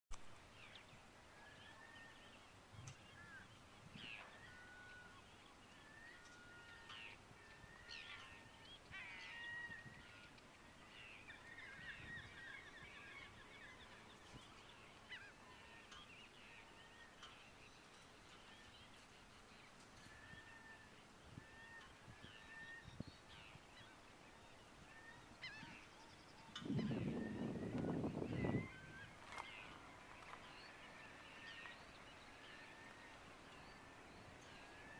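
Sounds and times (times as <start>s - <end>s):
faint flock of birds calling: 0.6s - 34.9s.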